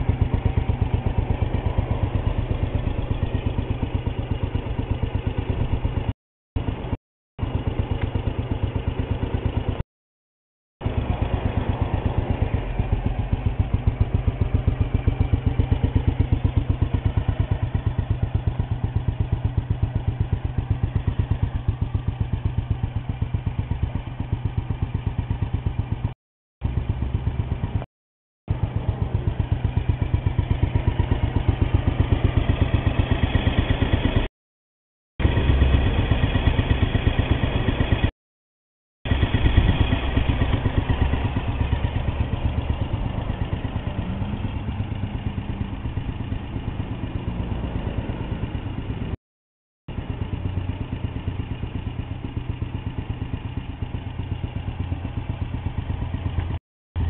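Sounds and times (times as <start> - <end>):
motorcycle engine running: 0.0 - 9.8, 10.8 - 27.9, 28.5 - 34.3, 35.2 - 38.1, 39.1 - 49.2, 49.9 - 57.0.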